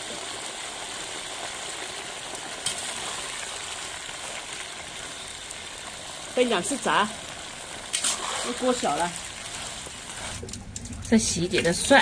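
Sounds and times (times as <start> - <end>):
deep-frying sizzling hiss: 0.0 - 12.0.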